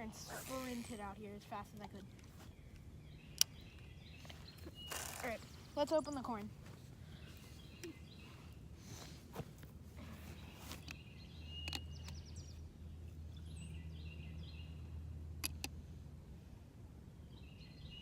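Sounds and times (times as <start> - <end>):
small birds chirping: 0.0 - 16.0, 17.2 - 18.0.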